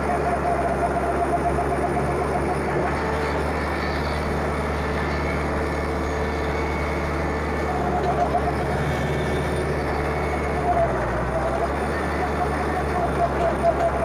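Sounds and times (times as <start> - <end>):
stump grinder grinding wood: 0.0 - 14.0
tractor engine running: 0.0 - 14.0.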